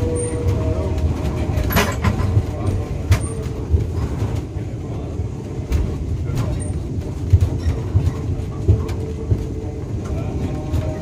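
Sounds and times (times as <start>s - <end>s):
wheels knocking and clattering: 0.0s - 4.7s, 5.4s - 11.0s
tram rumbling on rails: 0.0s - 11.0s.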